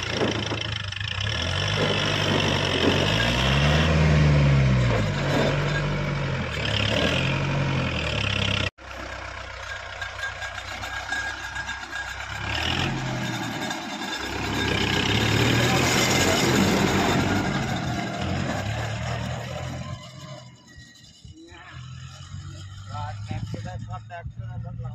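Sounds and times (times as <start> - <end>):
second tractor engine running: 0.0 - 24.9
tractor diesel engine revving: 0.0 - 24.9.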